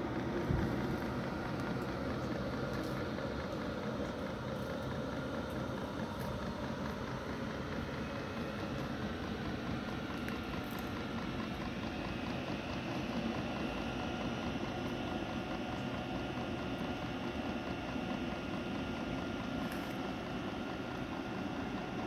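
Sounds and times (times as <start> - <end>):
air heater burner and blower rushing: 0.0 - 22.0.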